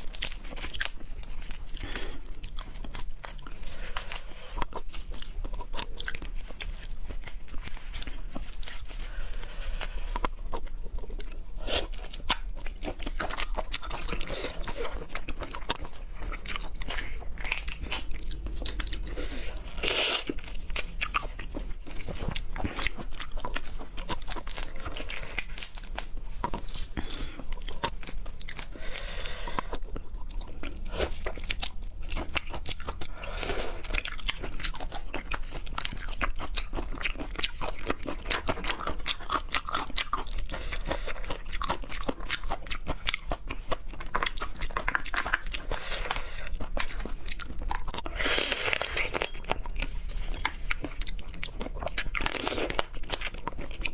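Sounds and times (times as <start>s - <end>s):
crunching and chewing seafood: 0.0s - 53.9s.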